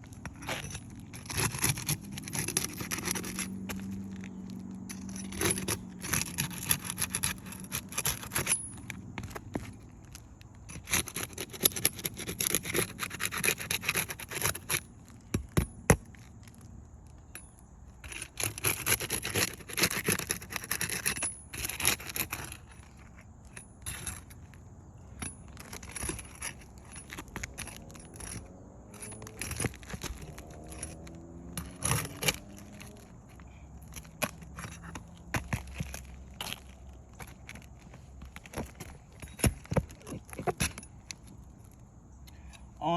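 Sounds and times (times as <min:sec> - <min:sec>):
shingles scraping and crackling: 0:00.0 - 0:17.3, 0:17.9 - 0:41.8.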